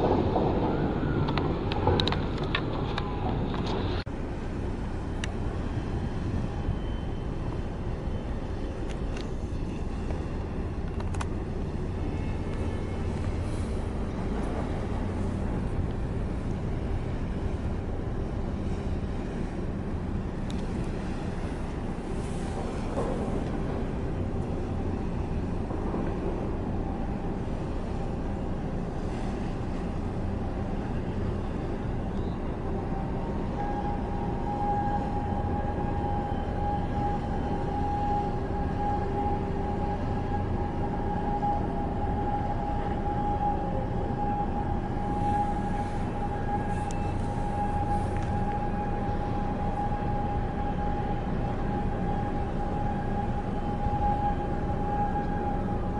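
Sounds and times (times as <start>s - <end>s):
low outdoor rumble: 0.0s - 55.9s
steady tone: 0.0s - 55.9s.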